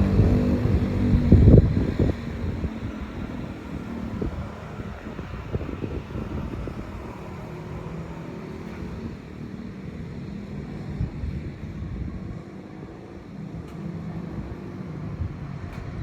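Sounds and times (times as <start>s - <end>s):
wind rumbling and buffeting: 0.0s - 16.0s.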